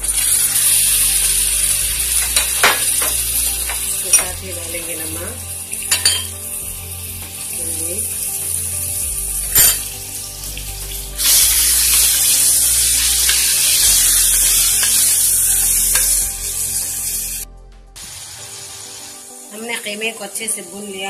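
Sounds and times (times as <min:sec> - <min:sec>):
meat sizzling in hot oil: 0:00.0 - 0:17.4, 0:18.0 - 0:21.0.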